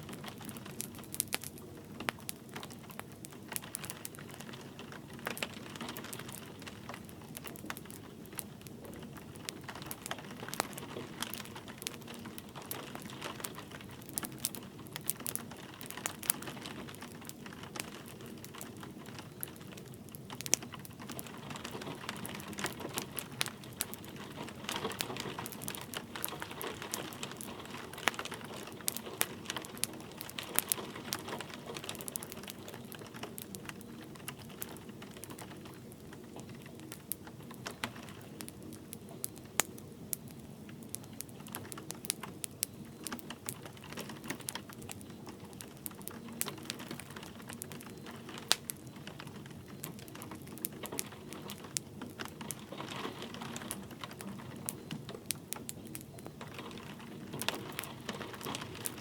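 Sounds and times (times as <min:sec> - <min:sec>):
light rain pattering: 0:00.0 - 0:59.0
wood fire crackling and popping: 0:00.0 - 0:59.0.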